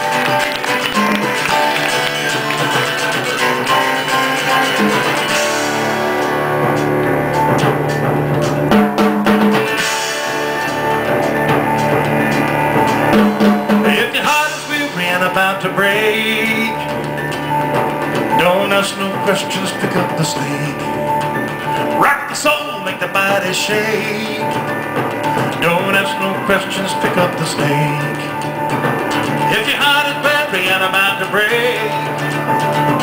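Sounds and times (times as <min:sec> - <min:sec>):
strummed acoustic guitars: 0:00.0 - 0:33.0.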